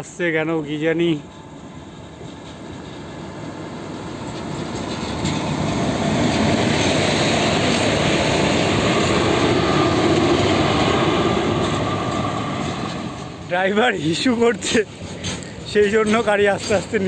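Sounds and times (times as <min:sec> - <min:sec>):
train passing slowly: 0:00.0 - 0:17.0.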